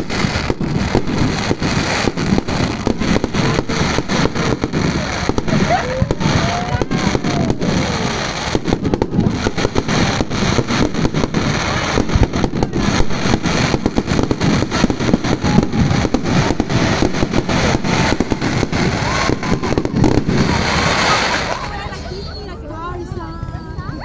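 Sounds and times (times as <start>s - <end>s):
fireworks bangs and crackling: 0.0s - 22.4s.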